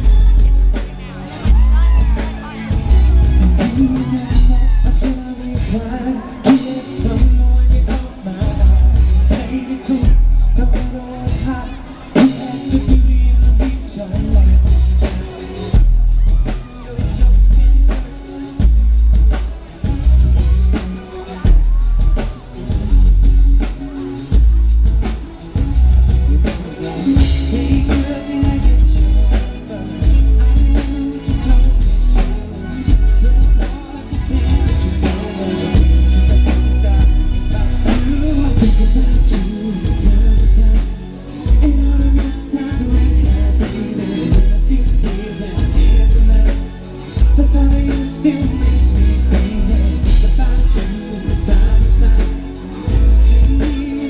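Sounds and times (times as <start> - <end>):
drums: 0.0 - 54.0
heavy bass notes: 0.0 - 54.0
person singing: 0.0 - 54.0.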